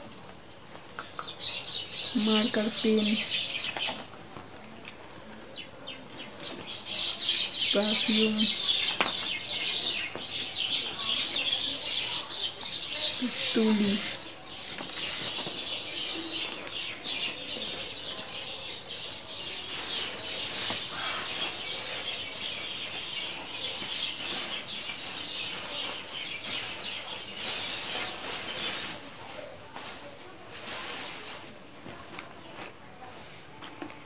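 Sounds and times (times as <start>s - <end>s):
plastic bags rustling: 1.7s - 5.4s, 7.5s - 34.0s.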